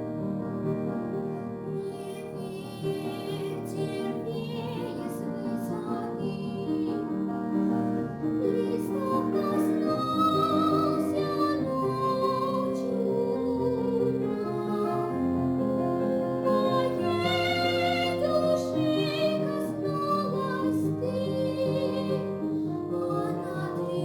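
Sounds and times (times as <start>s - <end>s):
piano accompaniment: 0.0s - 24.0s
woman singing with vibrato: 1.9s - 7.0s, 8.4s - 22.4s, 23.0s - 24.0s.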